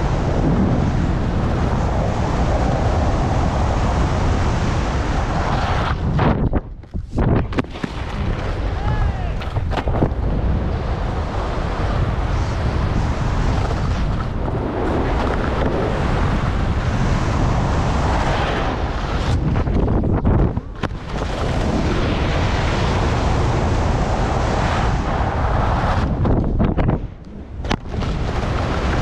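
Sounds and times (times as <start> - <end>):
skis scraping over packed snow: 0.0 - 6.2, 7.0 - 26.4, 27.7 - 29.0
loud wind rush on microphone: 0.0 - 29.0.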